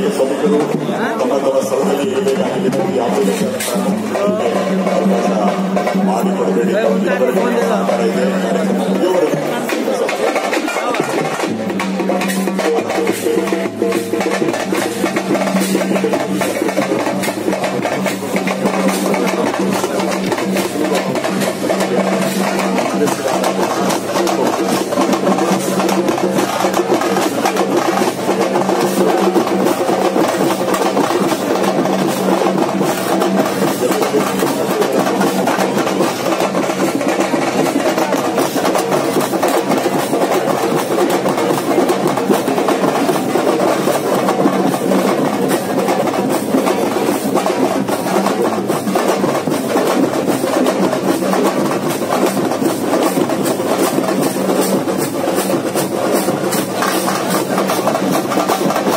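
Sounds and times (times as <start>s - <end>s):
rapid drumming: 0.0s - 58.9s.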